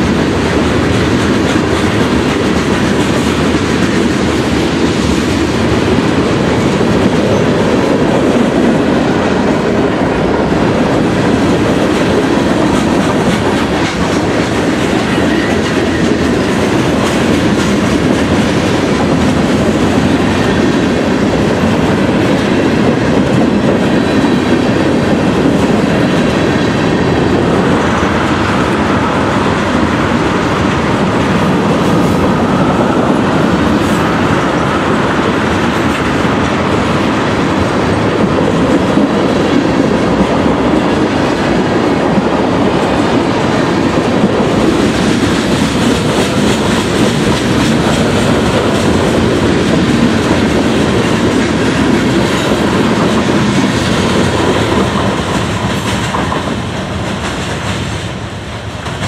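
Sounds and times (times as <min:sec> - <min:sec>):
steel train wheels clattering on rails: 0:00.0 - 0:59.0.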